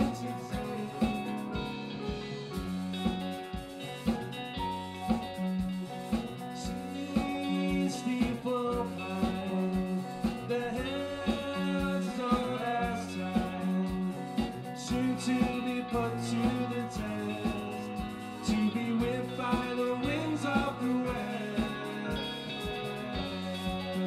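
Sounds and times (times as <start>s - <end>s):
bass guitar: 0.0s - 24.0s
drum kit steady beat: 0.0s - 24.0s
electric guitars: 0.0s - 24.0s.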